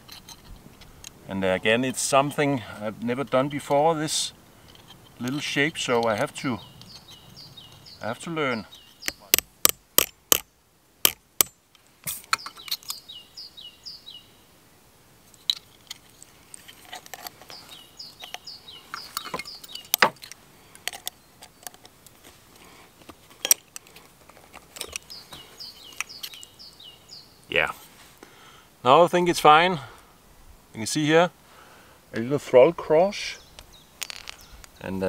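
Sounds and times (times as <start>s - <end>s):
songbird chirping: 0.0s - 30.1s, 30.7s - 35.0s.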